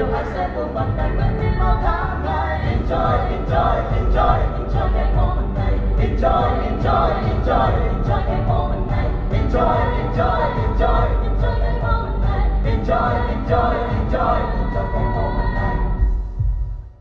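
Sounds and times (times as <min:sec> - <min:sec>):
singing voices over pulsing beat: 0:00.0 - 0:17.0.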